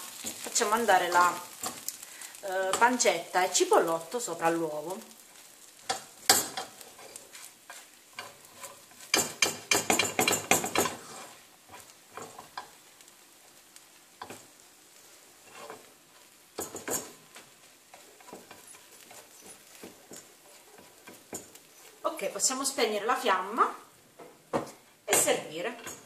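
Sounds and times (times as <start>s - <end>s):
spatula scraping frying pan: 0.0s - 13.0s, 14.0s - 22.1s
faint frying sizzle: 0.0s - 26.0s.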